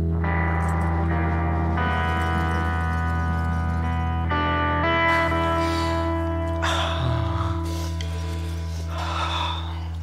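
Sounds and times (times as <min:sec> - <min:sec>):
low drone with sustained notes: 0:00.0 - 0:10.0.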